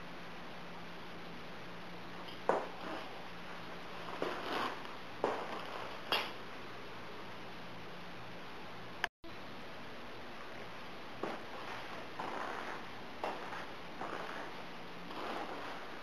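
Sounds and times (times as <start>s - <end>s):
room hiss: 0.0s - 16.0s.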